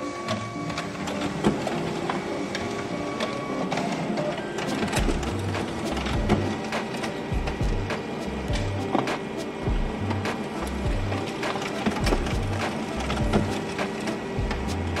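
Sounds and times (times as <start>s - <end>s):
paper handling clicks and clacks: 0.0s - 15.0s
printer running: 0.0s - 15.0s.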